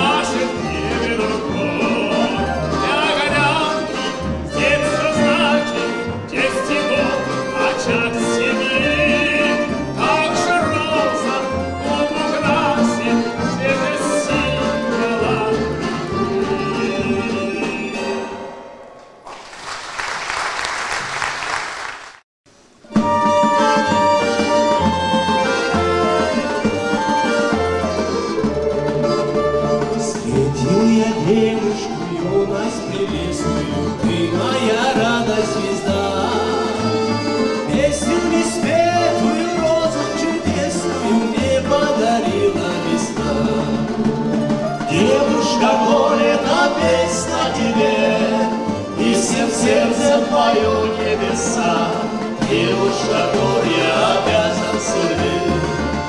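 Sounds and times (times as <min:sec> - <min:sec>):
accordion: 0:00.0 - 0:18.4, 0:22.9 - 0:56.0
man singing with vibrato: 0:00.0 - 0:18.4, 0:23.1 - 0:56.0
folk instrument ensemble: 0:00.0 - 0:18.6, 0:22.8 - 0:56.0.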